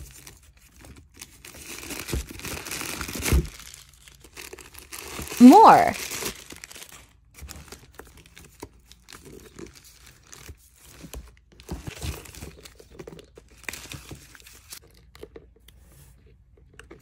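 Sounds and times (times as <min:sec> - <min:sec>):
plastic packaging crinkling: 0:00.0 - 0:05.4, 0:06.0 - 0:14.8.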